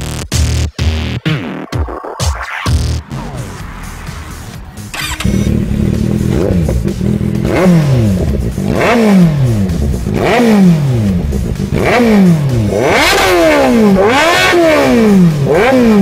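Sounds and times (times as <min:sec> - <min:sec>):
motorcycle engine idling and revving: 0:02.9 - 0:16.0.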